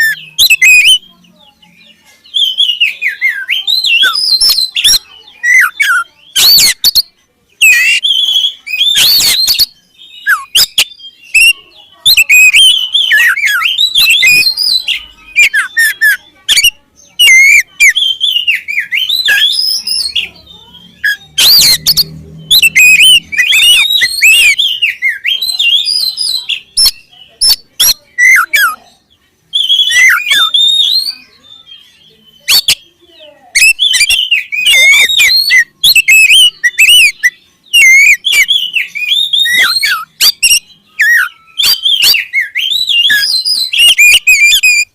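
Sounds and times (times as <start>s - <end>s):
bird singing whistled phrases: 0.0s - 44.9s.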